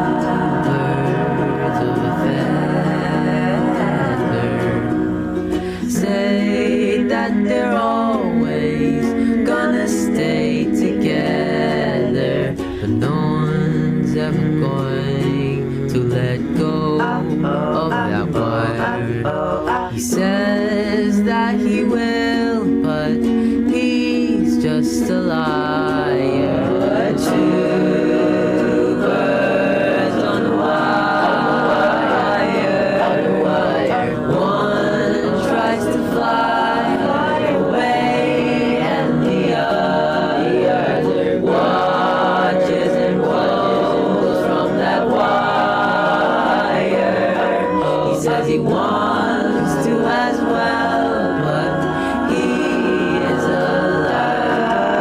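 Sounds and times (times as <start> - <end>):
song with layered vocals: 0.0 - 55.0.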